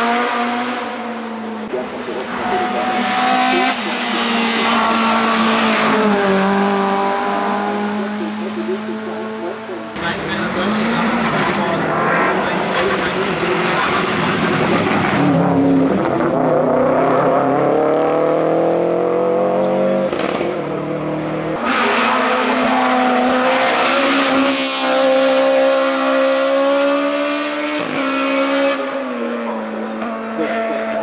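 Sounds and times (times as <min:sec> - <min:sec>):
race car engine accelerating: 0:00.0 - 0:31.0
race car engine at high revs: 0:00.0 - 0:31.0.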